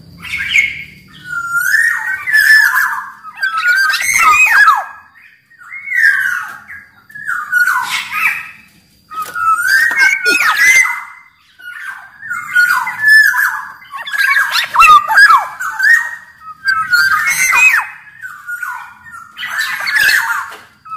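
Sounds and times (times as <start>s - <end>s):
bird singing whistled phrases: 0.2s - 8.5s, 9.1s - 20.9s.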